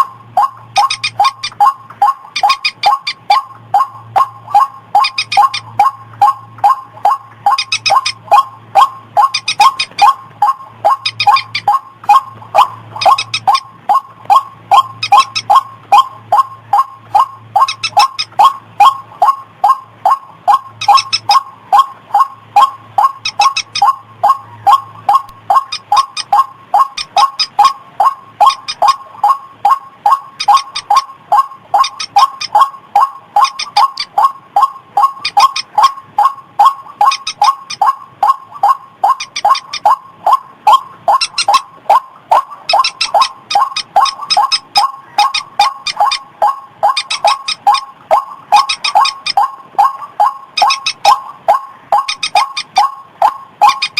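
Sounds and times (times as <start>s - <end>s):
waterhen calls: 0.0s - 53.9s.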